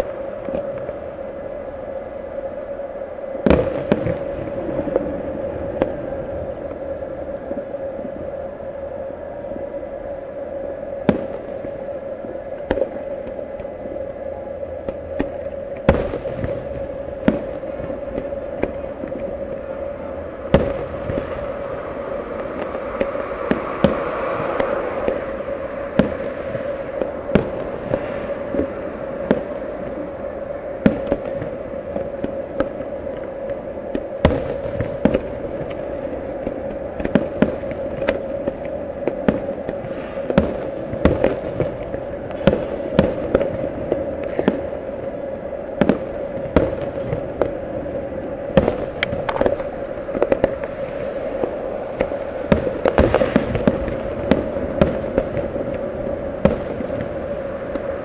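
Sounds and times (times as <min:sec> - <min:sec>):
steady hum: 0:00.0 - 0:58.0
fireworks bursting: 0:03.4 - 0:08.2, 0:10.9 - 0:14.1, 0:14.8 - 0:58.0.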